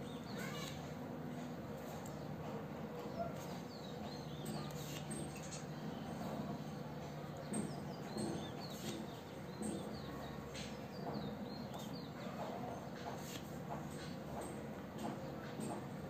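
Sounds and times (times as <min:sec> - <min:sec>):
small birds chirping: 0:00.0 - 0:02.4, 0:03.0 - 0:14.1.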